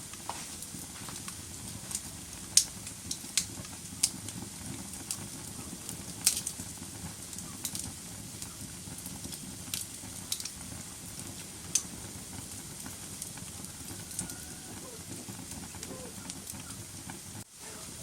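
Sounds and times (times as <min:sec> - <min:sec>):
wood fire crackling in fireplace: 0:00.0 - 0:18.0.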